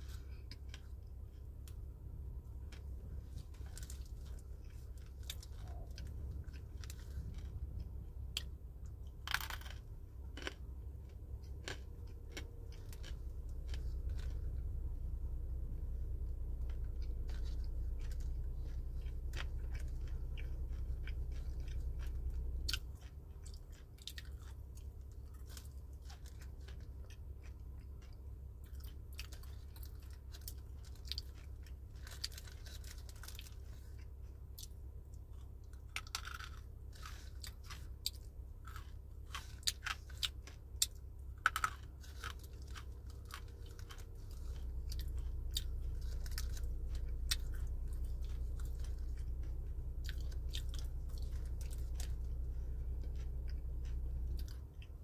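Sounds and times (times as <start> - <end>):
low steady rumble: 0.0 - 55.0
person chewing crunchy food: 0.0 - 55.0.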